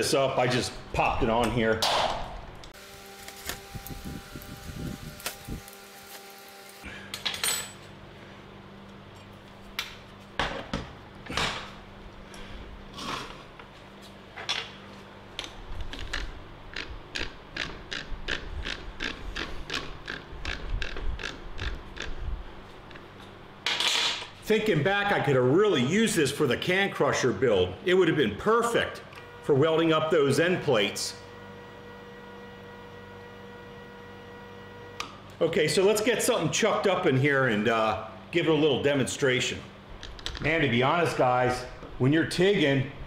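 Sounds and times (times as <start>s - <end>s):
fan humming: 0.0s - 43.0s.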